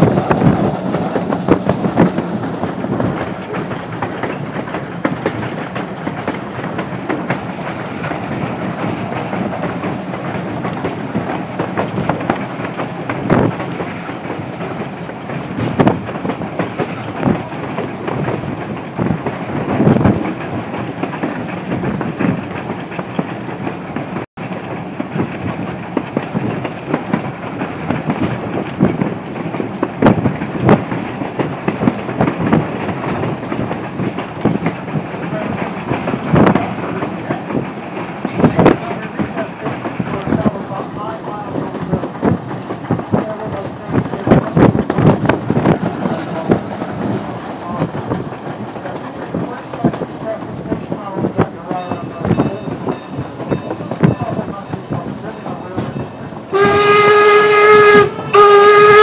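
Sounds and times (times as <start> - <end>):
clickety-clack over rail joints: 0.0 - 59.0
train wheels rumbling on track: 0.0 - 59.0.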